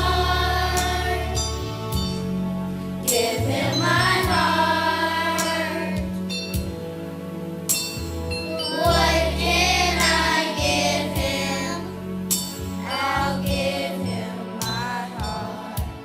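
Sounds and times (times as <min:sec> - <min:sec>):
gospel choir singing: 0:00.0 - 0:06.3, 0:08.5 - 0:16.0
sustained instrumental accompaniment: 0:00.0 - 0:16.0.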